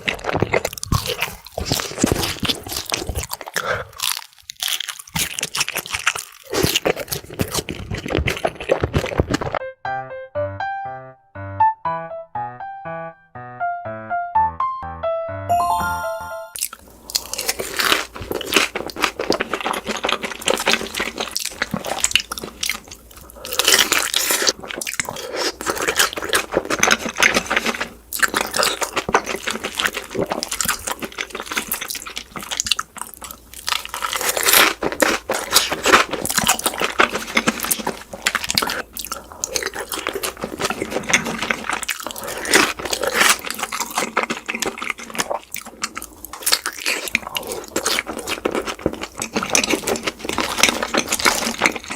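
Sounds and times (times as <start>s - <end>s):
person crunching and chewing food: 0.0s - 9.6s, 16.6s - 51.9s.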